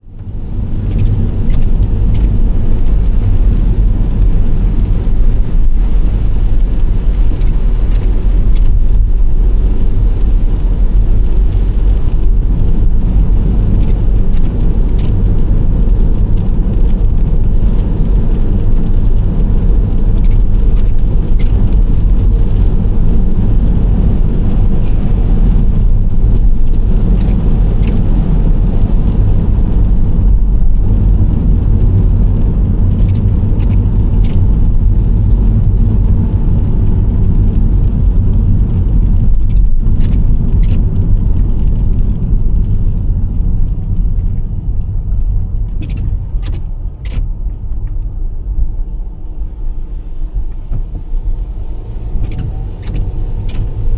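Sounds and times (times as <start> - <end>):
minivan road and engine rumble: 0.0 - 53.9.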